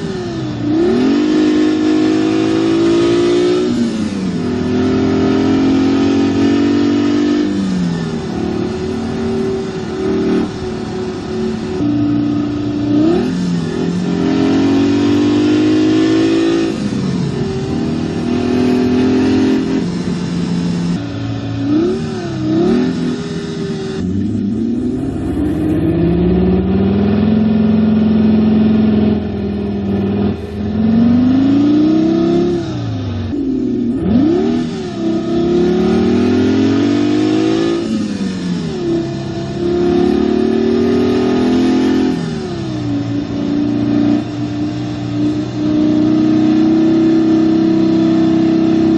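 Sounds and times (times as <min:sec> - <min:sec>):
simulated sports car engine revving: 0:00.0 - 0:48.9.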